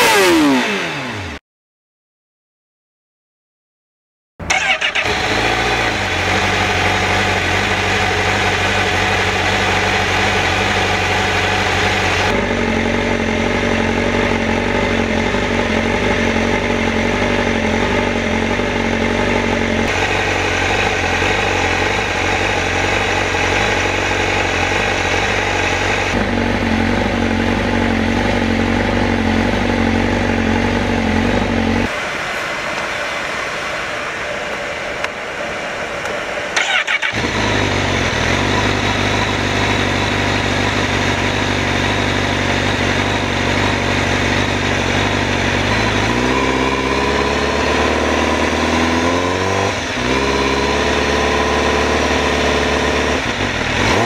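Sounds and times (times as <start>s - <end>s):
motorcycle engine idling: 4.4s - 48.6s.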